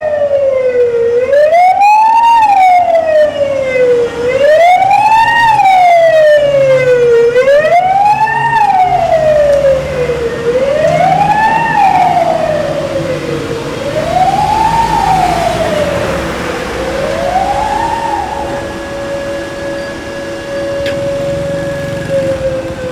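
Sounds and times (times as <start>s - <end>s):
fire alarm siren wailing: 0.0s - 22.9s.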